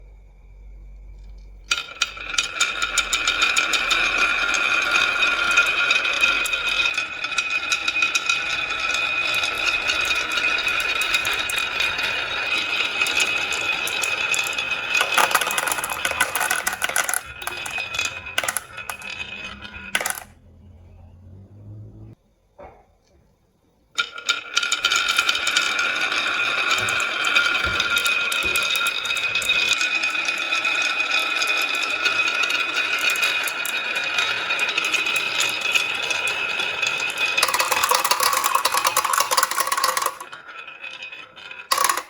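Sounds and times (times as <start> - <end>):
marbles rattling down a track: 1.7 - 20.3, 24.0 - 42.0.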